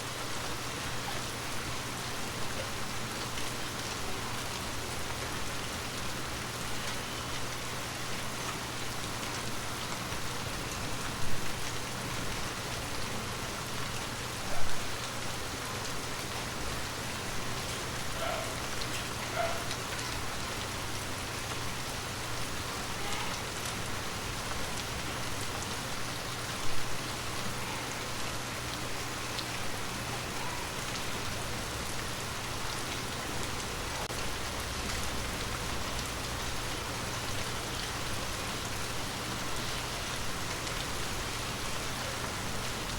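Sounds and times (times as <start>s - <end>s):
steady rain-like hiss: 0.0s - 42.9s.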